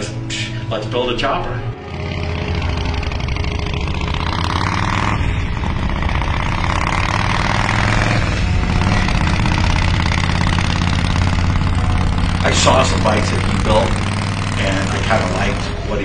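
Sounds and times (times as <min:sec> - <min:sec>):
motorcycle engine riding: 0:00.0 - 0:16.0.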